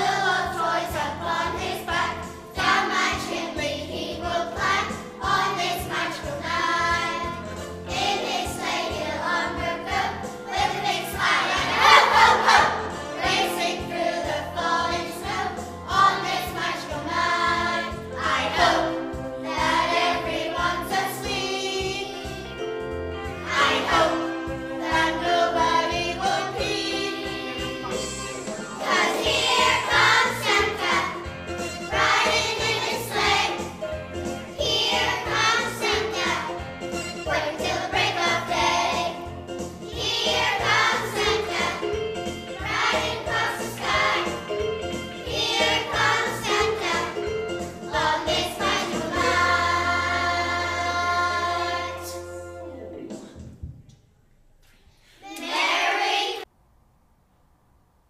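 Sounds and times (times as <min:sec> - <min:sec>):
children's choir singing: 0:00.0 - 0:22.6, 0:23.4 - 0:33.9, 0:34.5 - 0:36.6, 0:37.2 - 0:39.3, 0:39.9 - 0:52.4, 0:55.2 - 0:56.5
musical accompaniment: 0:00.0 - 0:54.0.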